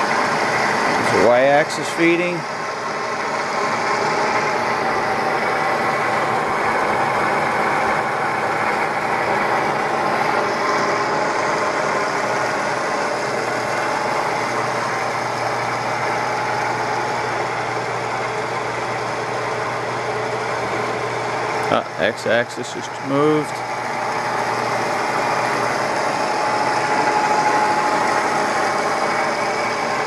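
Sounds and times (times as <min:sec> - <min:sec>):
low steady axis drive hum: 0:00.0 - 0:30.0
milling machine spindle running: 0:00.0 - 0:30.0.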